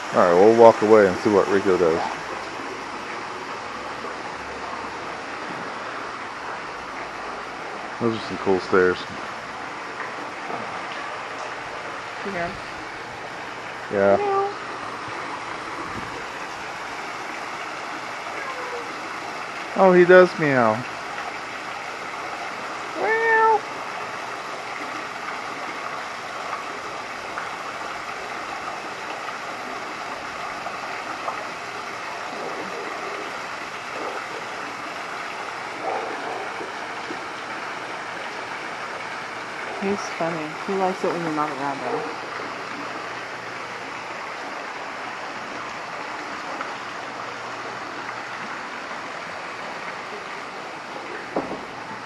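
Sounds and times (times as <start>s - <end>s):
running water: 0.0s - 52.0s.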